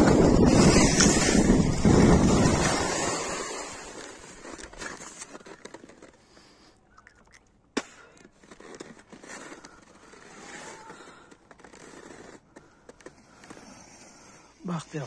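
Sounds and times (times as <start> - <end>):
rustling and scraping: 0.0 - 6.6, 8.2 - 14.6.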